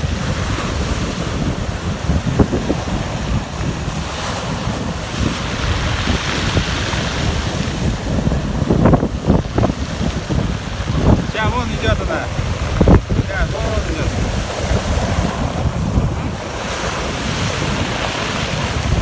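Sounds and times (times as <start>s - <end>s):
sea waves: 0.0s - 19.0s
wind buffeting microphone: 0.0s - 19.0s.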